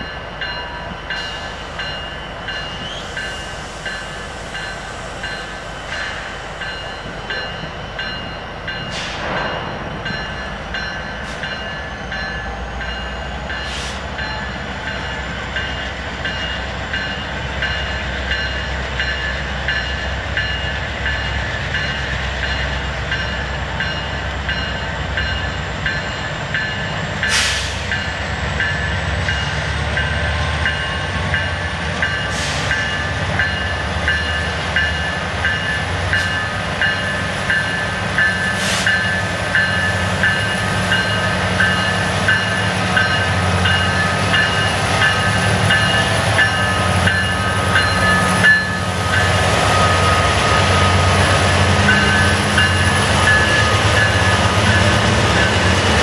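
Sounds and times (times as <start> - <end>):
diesel locomotive engine rumble: 0.0 - 56.0
locomotive bell ringing: 0.0 - 56.0.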